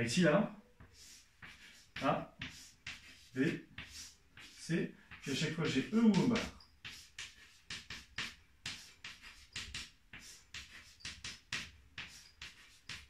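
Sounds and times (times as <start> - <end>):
chalk writing on blackboard: 0.8 - 13.0.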